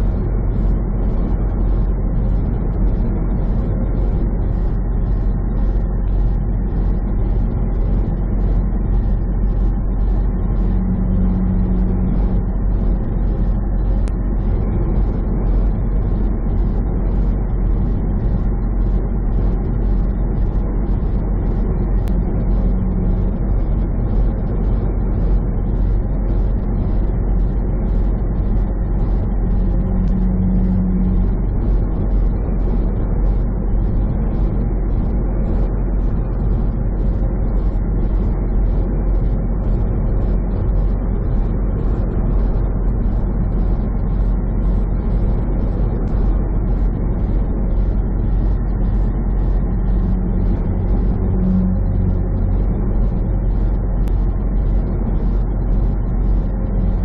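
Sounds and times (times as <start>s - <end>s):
truck engine and road noise: 0.0s - 57.0s.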